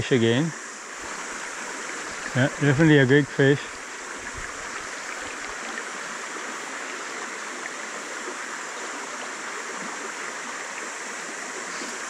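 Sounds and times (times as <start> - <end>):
stream water rushing over gravel: 0.0 - 12.0.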